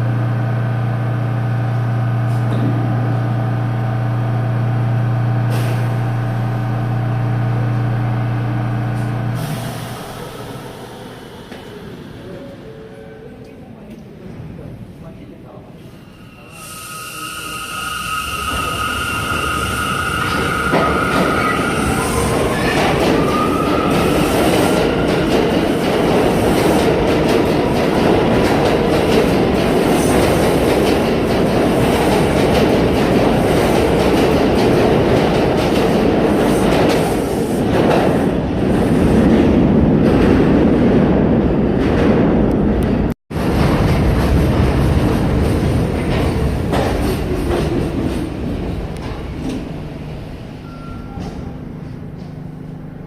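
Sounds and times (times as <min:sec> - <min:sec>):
subway train rumbling on rails: 0:00.0 - 0:53.0.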